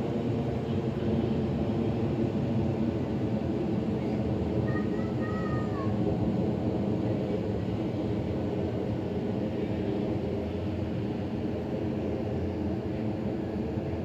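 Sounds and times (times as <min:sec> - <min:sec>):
airplane engine rumble: 0:00.0 - 0:14.0.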